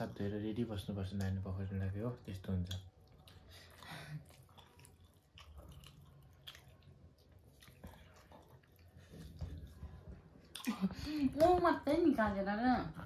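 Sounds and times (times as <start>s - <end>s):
faint chewing: 0.0s - 11.6s.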